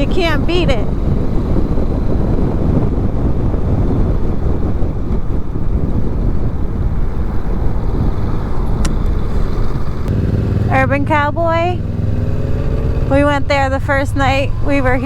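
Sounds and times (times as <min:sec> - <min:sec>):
motorcycle engine: 0:00.0 - 0:15.0
road noise: 0:00.0 - 0:15.0
wind rushing over microphone: 0:00.0 - 0:15.0.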